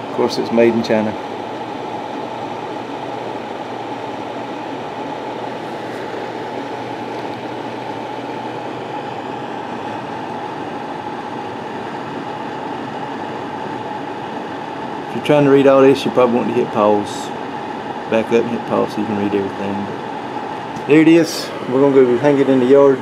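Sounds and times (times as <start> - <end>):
electric fan whirring hum: 0.0 - 23.0.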